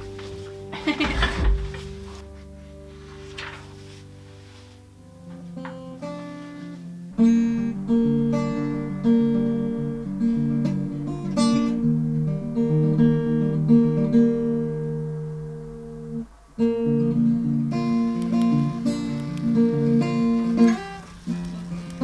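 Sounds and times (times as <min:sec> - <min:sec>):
acoustic guitar strumming: 0:00.0 - 0:02.4, 0:05.1 - 0:22.0.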